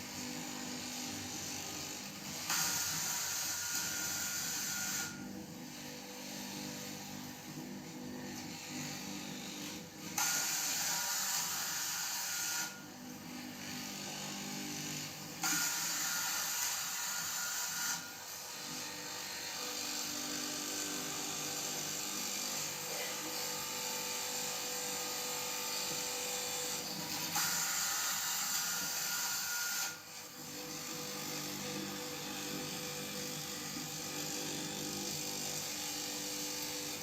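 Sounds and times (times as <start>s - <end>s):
blade cutting through cloth: 0.0s - 7.0s, 8.3s - 12.8s, 13.4s - 37.0s
fabric cutting machine humming: 0.0s - 37.0s.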